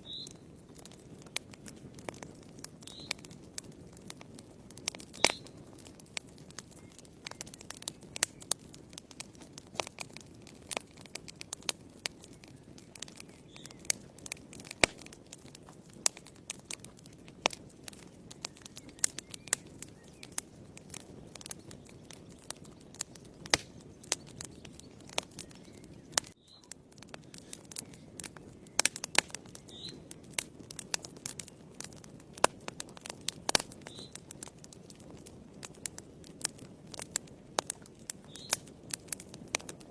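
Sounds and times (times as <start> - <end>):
fire crackling and popping: 0.0 - 39.9
low rush of flames: 0.0 - 39.9.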